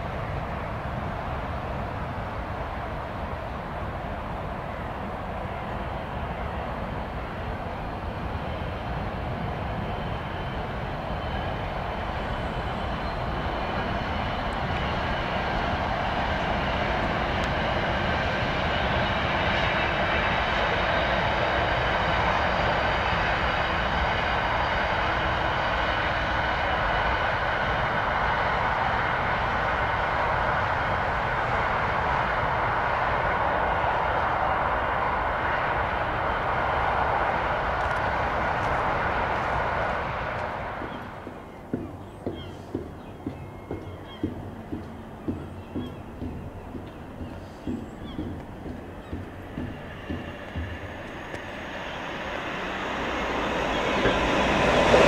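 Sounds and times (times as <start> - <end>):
diesel locomotive passing: 0.0 - 55.0
wheels rumbling on rail: 0.0 - 55.0.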